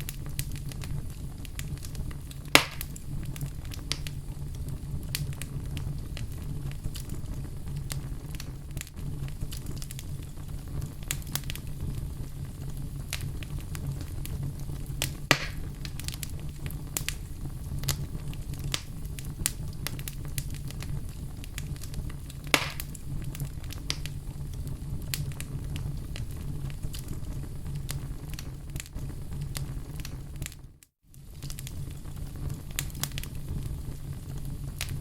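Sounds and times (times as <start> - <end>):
loud fire pops: 0.0 - 35.0
wood fire crackling and popping: 0.0 - 35.0.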